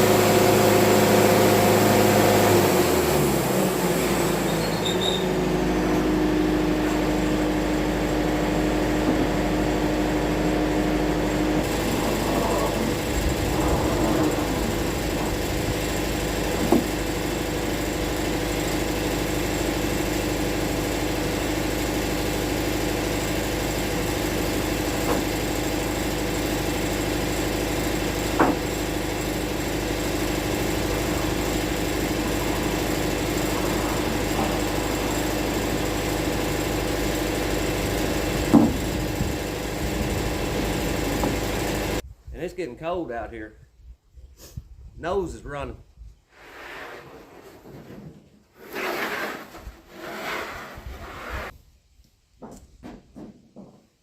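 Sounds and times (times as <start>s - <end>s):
sawmill running: 0.0s - 42.0s, 48.6s - 51.5s.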